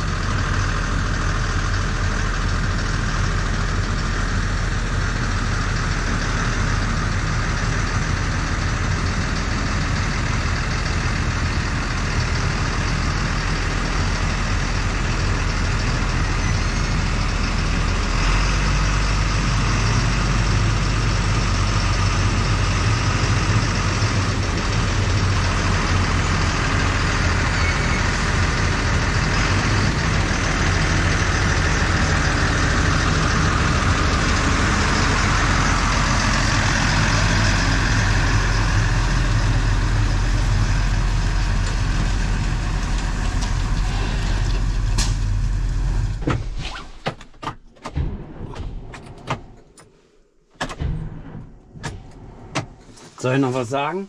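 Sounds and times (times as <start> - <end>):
tractor diesel engine running: 0.0 - 46.6.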